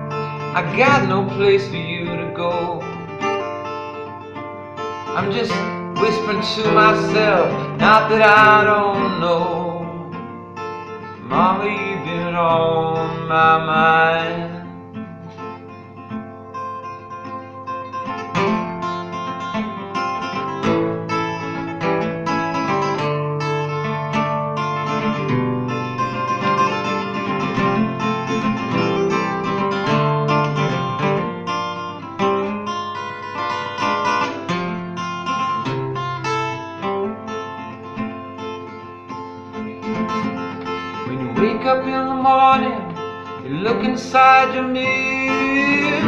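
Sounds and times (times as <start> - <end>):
acoustic guitar picking and strumming: 0.0 - 46.0.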